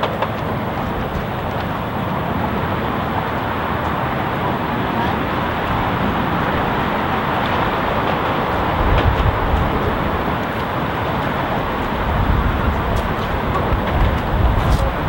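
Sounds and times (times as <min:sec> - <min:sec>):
road traffic rush: 0:00.0 - 0:15.0.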